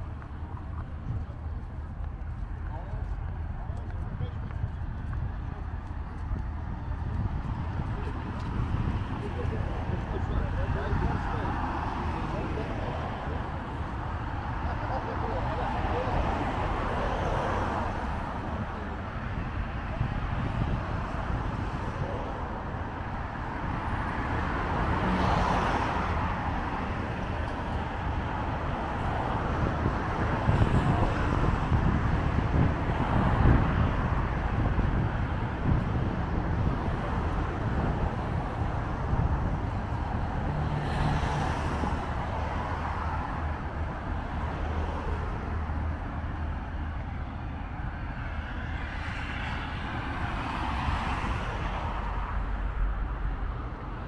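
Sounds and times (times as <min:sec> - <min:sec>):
cars passing by: 0:00.0 - 0:54.0.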